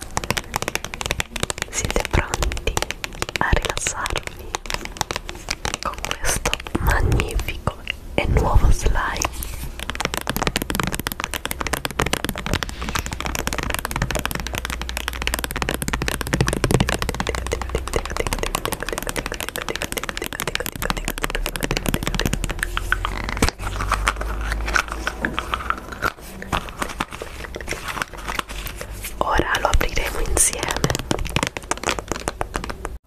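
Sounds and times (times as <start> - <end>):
slime crackling and popping: 0.0 - 33.0.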